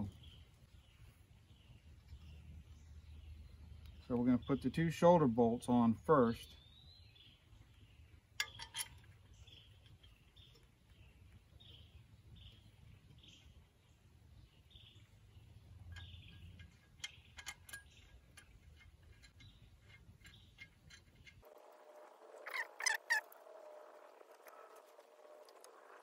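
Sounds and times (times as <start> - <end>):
faint bird chirping: 0.0 - 26.0
outdoor background noise: 0.0 - 26.0.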